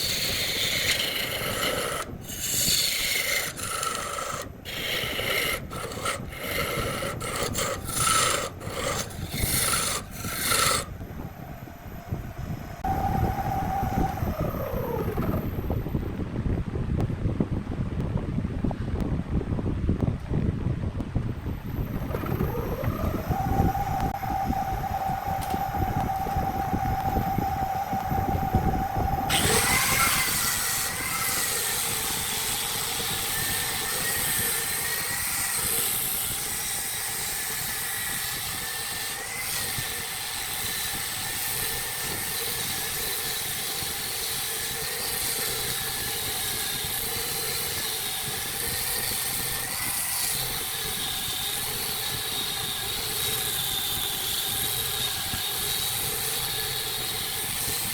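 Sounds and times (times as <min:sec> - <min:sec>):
wood lathe whining: 0:00.0 - 0:15.6, 0:21.8 - 0:57.9.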